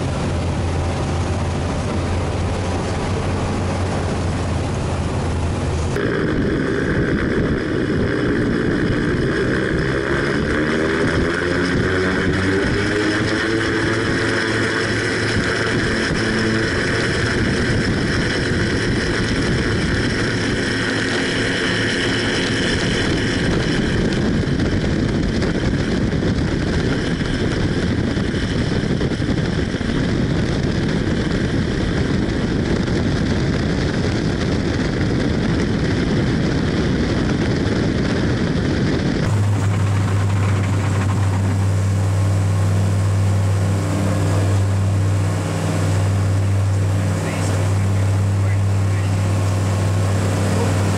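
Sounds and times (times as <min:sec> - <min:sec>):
heavy rushing noise: 0:00.0 - 0:50.9
propeller aircraft engines droning: 0:00.0 - 0:50.9.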